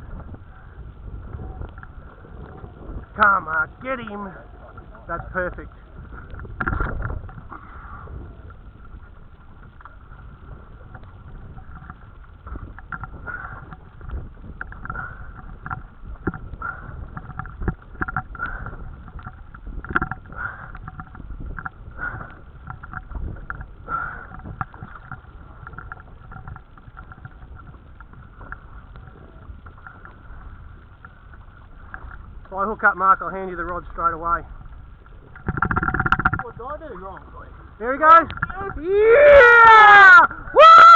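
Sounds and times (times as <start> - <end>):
water slapping against hull: 0.0 - 40.9
wind rumbling on microphone: 0.0 - 40.9.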